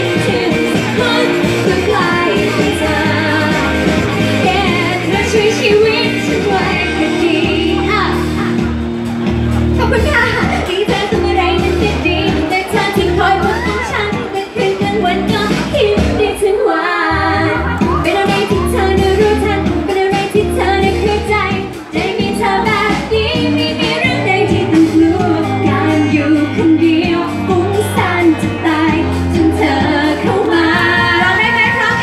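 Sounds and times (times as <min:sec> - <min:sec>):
woman singing into a microphone: 0:00.0 - 0:08.5, 0:09.8 - 0:32.0
pop backing music with bass: 0:00.0 - 0:32.0.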